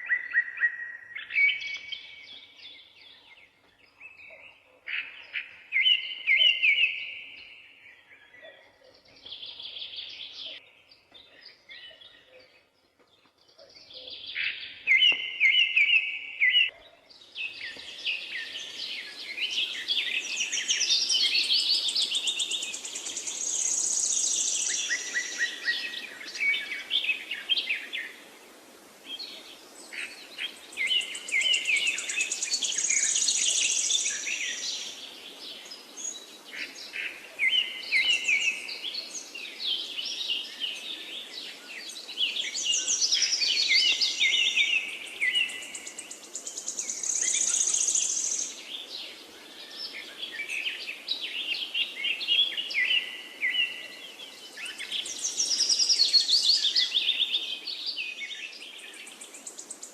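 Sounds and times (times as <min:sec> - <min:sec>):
birds chirping: 0:00.0 - 0:59.9
songbird singing: 0:00.0 - 0:59.9
background hiss: 0:08.9 - 0:59.9.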